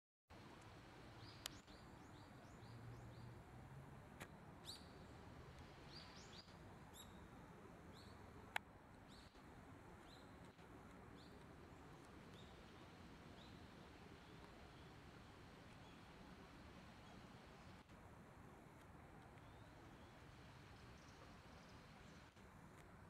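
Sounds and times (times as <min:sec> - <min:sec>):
small birds chirping: 0:01.0 - 0:17.9, 0:18.6 - 0:22.9.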